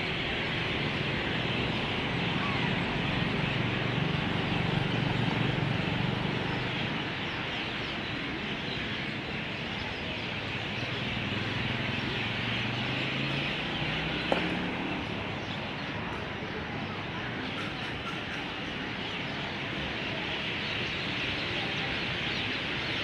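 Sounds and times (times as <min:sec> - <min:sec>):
low traffic hum: 0:00.0 - 0:23.0.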